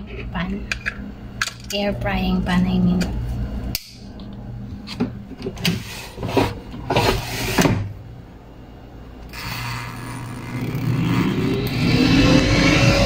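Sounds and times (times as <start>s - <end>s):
air fryer fan whining: 0.0s - 13.0s.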